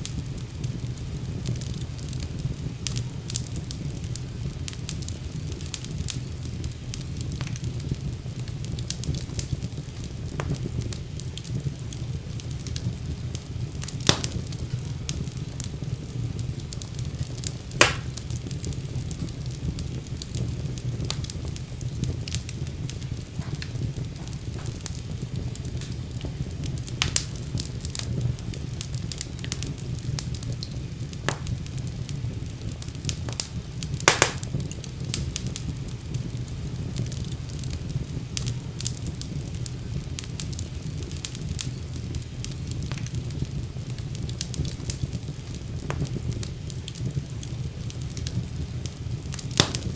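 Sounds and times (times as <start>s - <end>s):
loud pops of fire: 0.0s - 49.9s
wood fire crackling: 0.0s - 49.9s.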